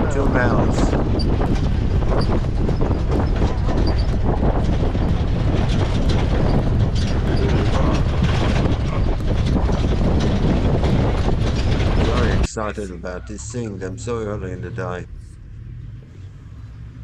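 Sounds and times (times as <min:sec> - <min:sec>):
vehicle body rattling: 0:00.0 - 0:15.8
vehicle engine and tyre rumble: 0:00.0 - 0:17.0.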